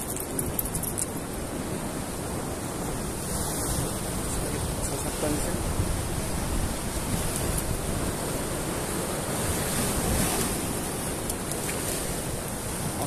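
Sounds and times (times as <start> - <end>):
sea surf on rocky shore: 0.0 - 13.0
wind buffeting microphone: 0.0 - 13.0.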